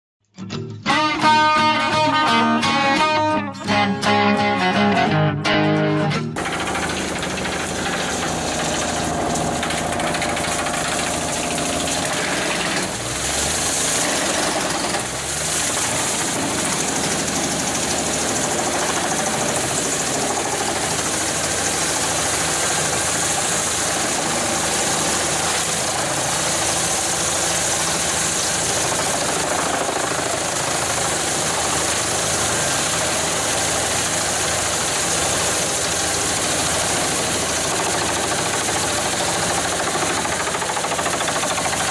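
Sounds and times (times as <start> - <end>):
heavy machinery engine running: 6.4 - 41.9.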